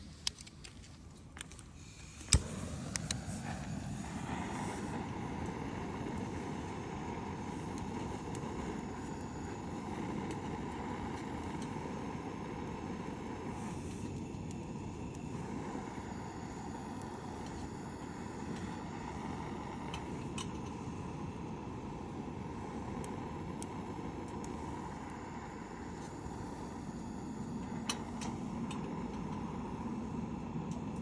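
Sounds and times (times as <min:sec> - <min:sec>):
fire crackles and pops: 0:00.0 - 0:31.0
bonfire rushing: 0:02.0 - 0:31.0.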